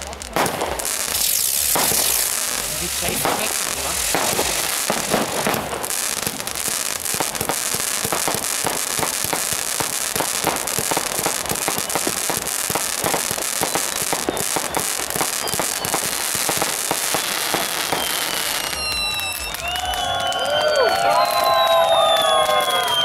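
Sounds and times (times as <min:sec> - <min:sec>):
fireworks launches pops and bangs: 0:00.0 - 0:23.0.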